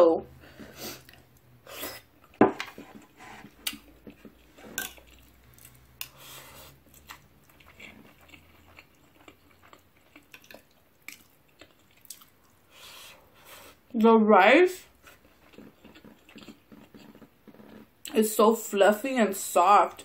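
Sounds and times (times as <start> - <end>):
person chewing food: 0.6 - 13.9, 14.9 - 18.2.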